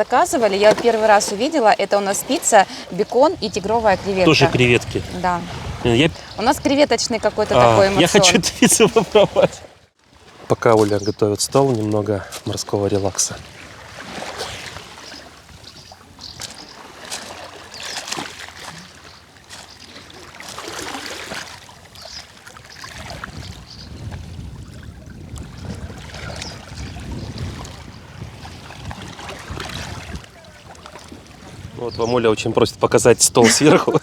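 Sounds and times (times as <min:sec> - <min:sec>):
sea waves washing on shore: 0:00.0 - 0:34.0.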